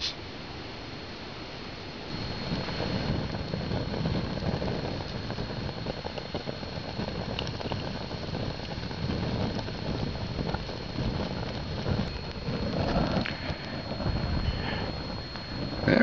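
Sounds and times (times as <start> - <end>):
fire starters hissing: 2.1 - 16.0
wind buffeting microphone: 2.1 - 16.0.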